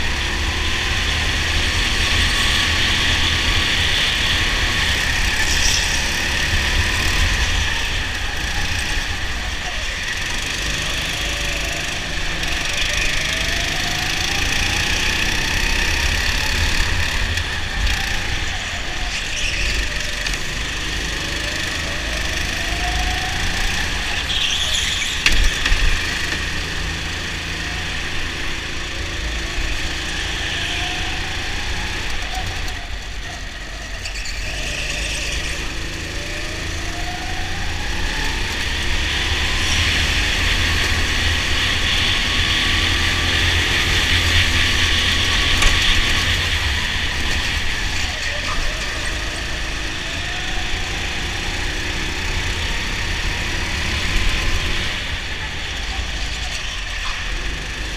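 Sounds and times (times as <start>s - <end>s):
go-kart engine at racing speed: 0.0s - 57.9s.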